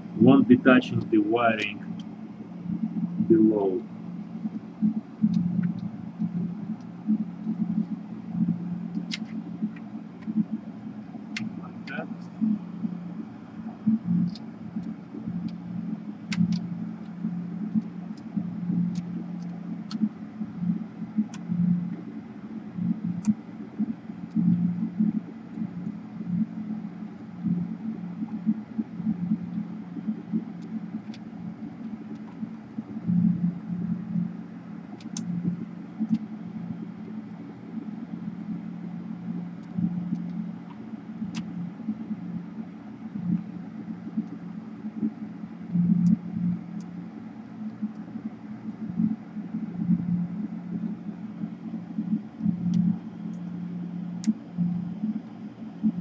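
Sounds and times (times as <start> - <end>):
exhaust fan humming: 0.0 - 56.0.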